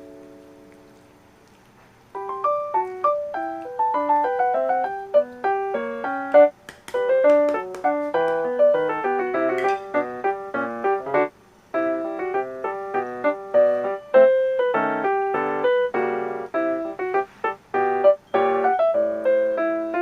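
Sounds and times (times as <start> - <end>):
light piano-like melody: 0.0 - 20.0.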